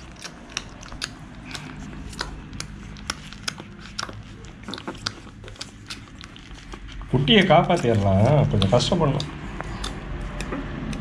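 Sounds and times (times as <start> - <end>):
puppies suckling with soft clicks: 0.0 - 11.0.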